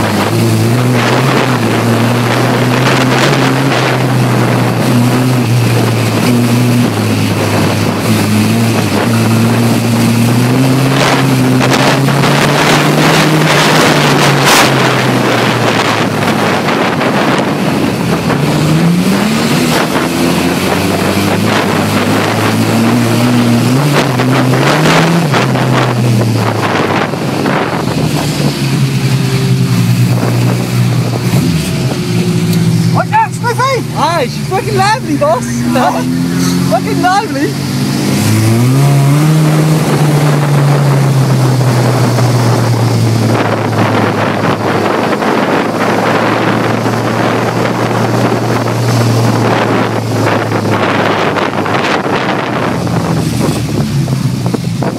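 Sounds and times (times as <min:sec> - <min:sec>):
race car engine revving: 0:00.0 - 0:54.9
wind buffeting microphone: 0:00.0 - 0:54.9.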